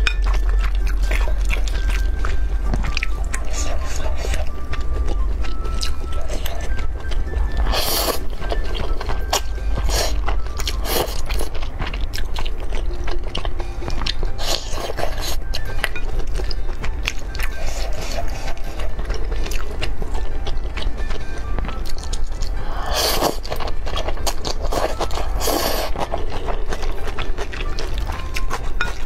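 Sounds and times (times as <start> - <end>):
noodles slurping: 0.0 - 20.9, 21.5 - 29.0
quiet background music: 0.0 - 29.0
wet chewing: 0.0 - 29.0.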